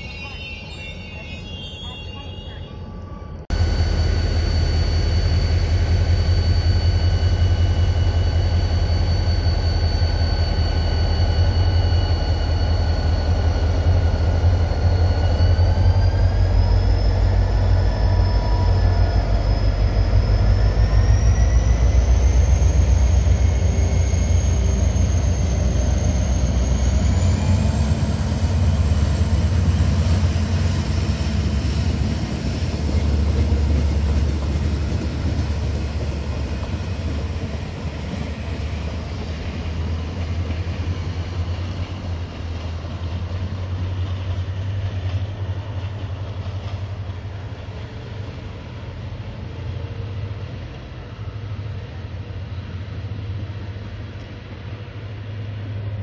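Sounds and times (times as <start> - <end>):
carriages rumbling on rails: 0.0 - 56.0
diesel locomotive engine drone: 0.0 - 56.0
rising engine whine: 0.0 - 56.0.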